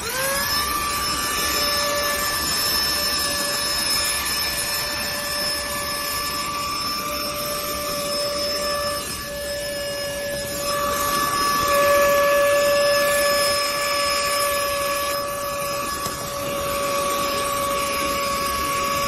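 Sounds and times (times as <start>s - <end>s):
handheld vacuum cleaner running: 0.0s - 19.0s.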